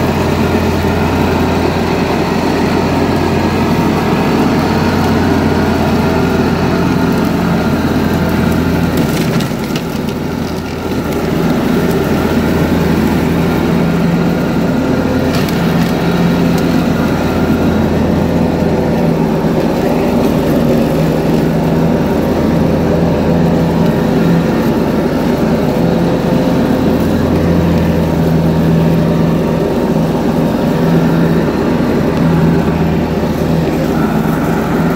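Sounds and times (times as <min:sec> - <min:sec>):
garden tractor engine running: 0:00.0 - 0:34.9
mower blades cutting grass: 0:00.0 - 0:34.9.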